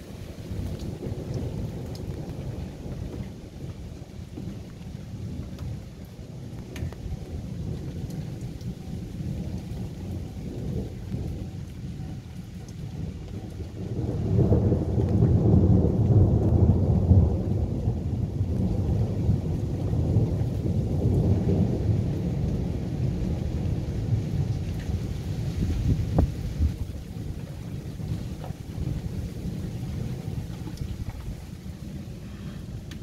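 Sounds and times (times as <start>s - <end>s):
rolling thunder: 0.0s - 33.0s.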